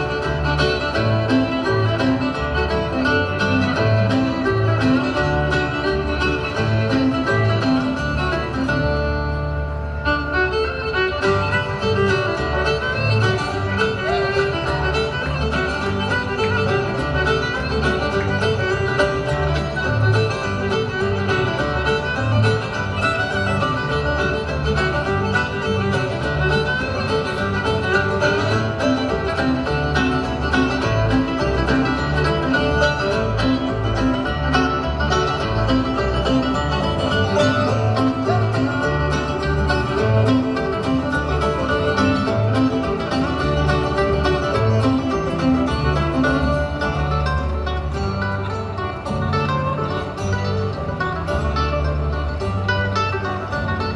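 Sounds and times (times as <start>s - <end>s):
acoustic guitars: 0.0s - 53.9s
banjo: 0.0s - 53.9s
fiddle: 0.0s - 53.9s.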